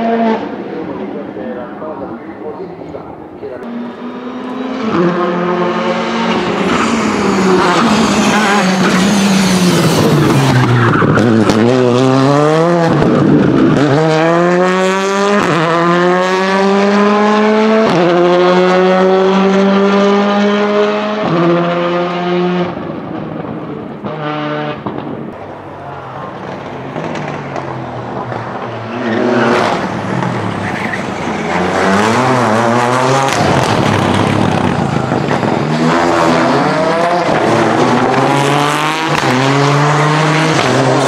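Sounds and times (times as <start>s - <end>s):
rally car engine revving: 0.0s - 41.0s
second rally car: 0.0s - 41.0s.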